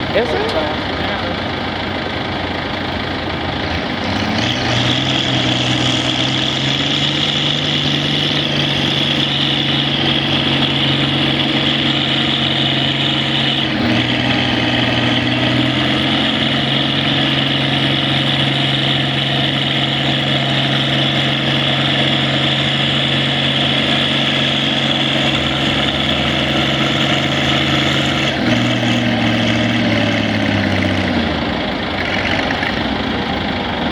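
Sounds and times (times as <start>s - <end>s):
steady high whine: 0.0s - 33.9s
tractor engine revving: 0.0s - 33.9s.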